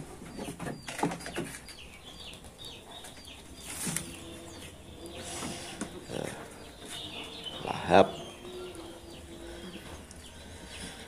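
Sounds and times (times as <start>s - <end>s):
goats chewing feed: 0.0s - 11.0s
small birds chirping: 0.0s - 11.0s.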